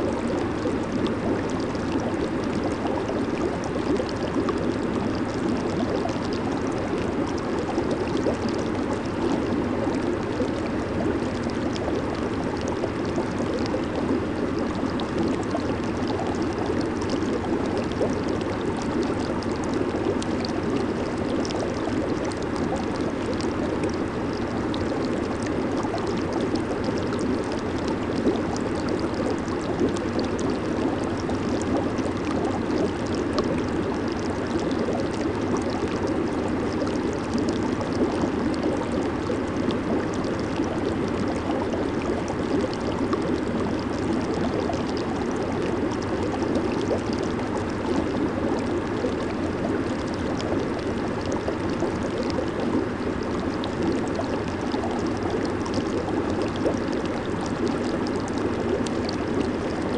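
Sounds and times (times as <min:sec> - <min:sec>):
hot tub jets bubbling: 0:00.0 - 0:59.9.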